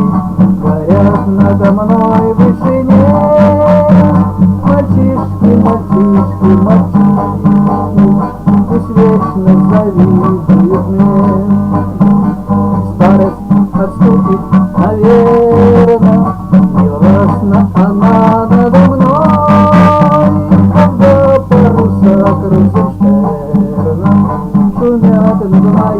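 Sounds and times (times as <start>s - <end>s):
song with strummed acoustic guitar: 0.0s - 25.9s.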